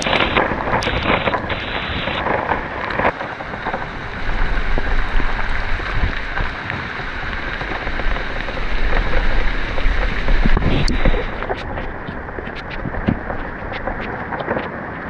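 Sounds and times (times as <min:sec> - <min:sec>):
heavy rain falling: 0:00.0 - 0:15.0
wind buffeting microphone: 0:00.0 - 0:15.0.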